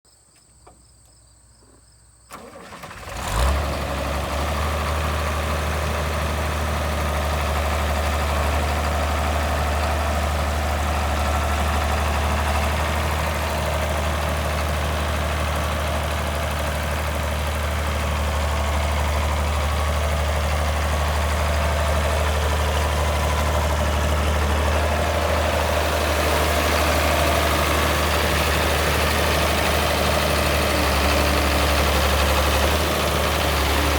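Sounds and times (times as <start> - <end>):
diesel tractor engine starting and idling: 2.3 - 33.9.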